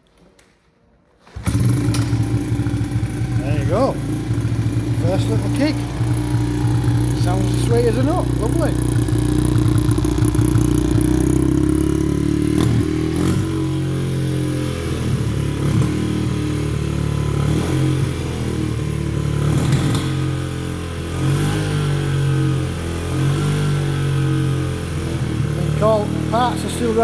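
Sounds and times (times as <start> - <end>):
motorcycle engine idling: 1.4 - 27.0.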